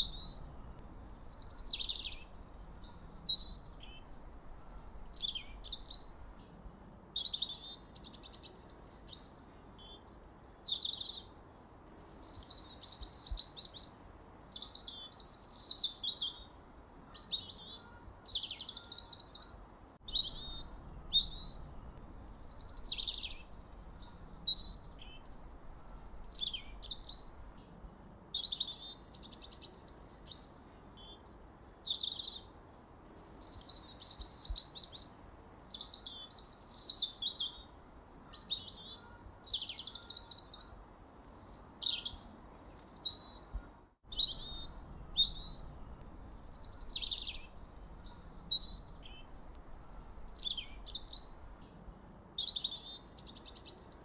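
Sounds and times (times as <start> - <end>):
birdsong chirps and whistles: 0.0 - 11.3, 11.9 - 54.0
faint steady hiss: 0.0 - 54.0.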